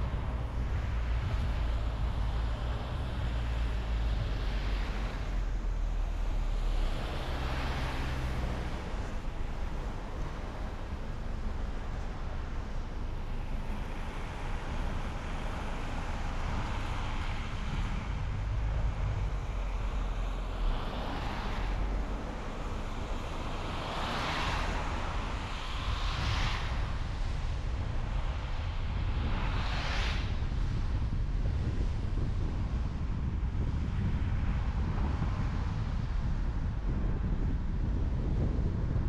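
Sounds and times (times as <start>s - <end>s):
tyres and engine rumble: 0.0s - 39.0s
vehicles passing by: 0.0s - 39.0s.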